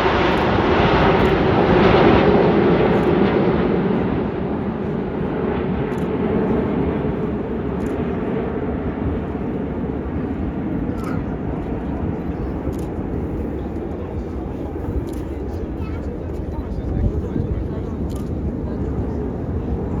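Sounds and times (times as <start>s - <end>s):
airplane flying past: 0.0s - 20.0s.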